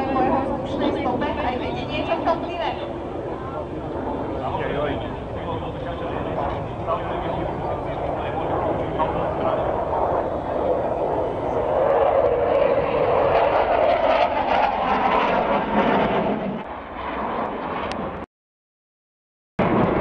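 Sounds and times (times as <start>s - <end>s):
jet engines roaring overhead: 0.0s - 18.3s, 19.6s - 20.0s.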